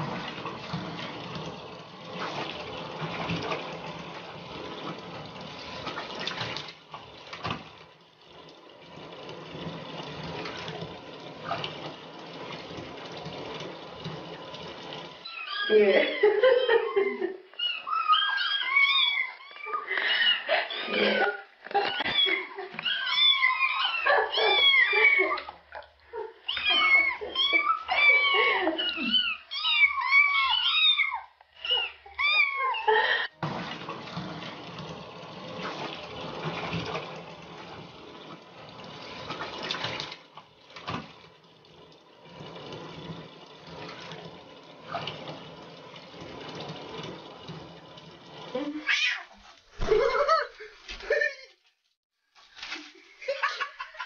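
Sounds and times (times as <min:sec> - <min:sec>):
water running into bathtub: 0:00.0 - 0:54.0.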